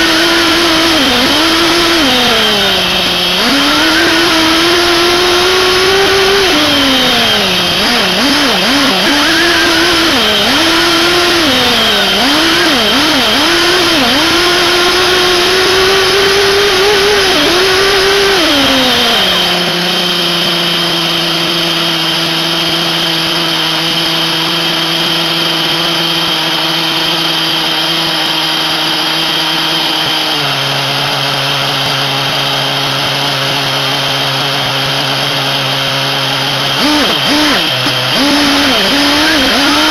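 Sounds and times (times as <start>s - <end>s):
model engine revving and idling: 0.0s - 39.9s.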